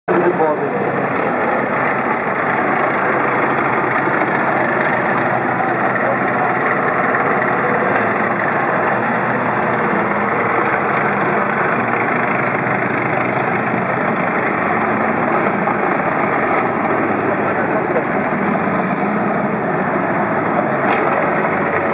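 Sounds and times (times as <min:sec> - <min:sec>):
heavy tracked vehicle engine: 0:00.1 - 0:21.9.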